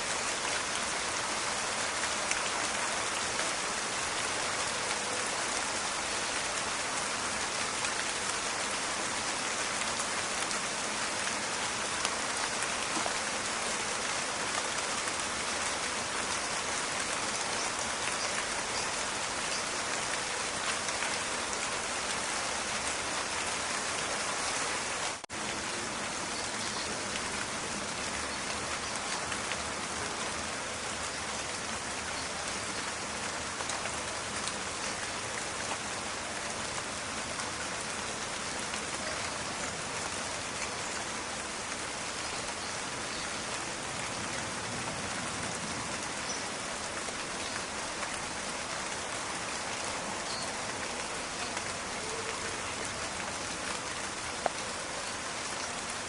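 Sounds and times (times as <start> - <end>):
raindrops crackling and ticking: 0.0 - 56.0
steady rain hiss: 0.0 - 56.0.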